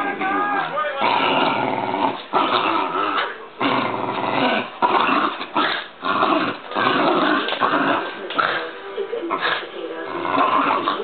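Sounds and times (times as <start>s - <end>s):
dog play-growling: 0.0s - 11.0s.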